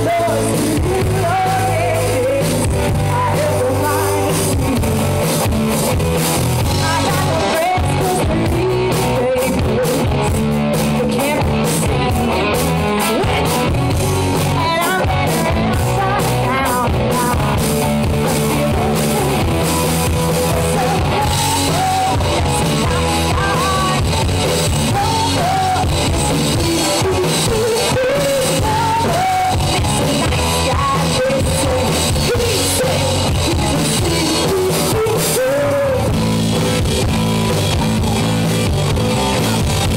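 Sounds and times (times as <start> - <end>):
lead singer singing: 0.0 - 6.0, 6.6 - 36.5
live rock band playing: 0.0 - 39.9.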